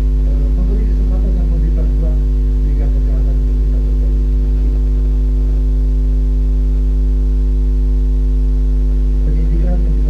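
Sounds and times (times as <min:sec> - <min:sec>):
loud electrical mains hum: 0:00.0 - 0:10.0.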